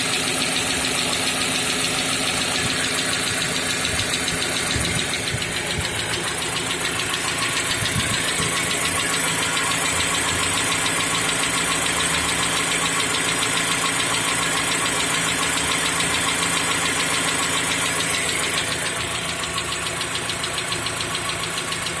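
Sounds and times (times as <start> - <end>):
car engine running: 0.0 - 22.0
rapid ticking engine knock: 0.0 - 22.0.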